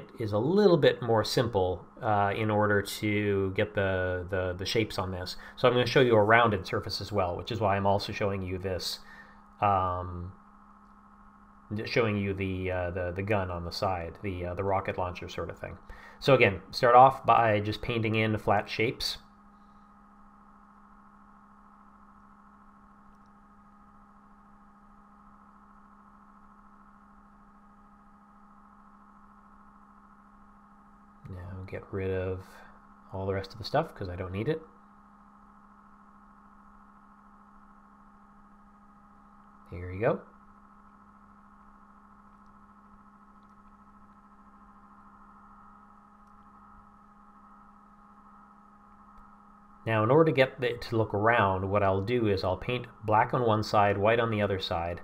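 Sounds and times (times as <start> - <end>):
faint electrical hum: 0.0 - 55.0.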